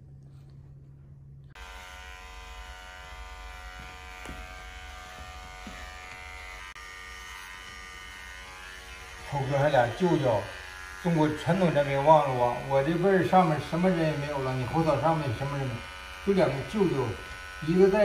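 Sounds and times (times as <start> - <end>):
electric hair clippers buzzing: 1.6 - 18.0.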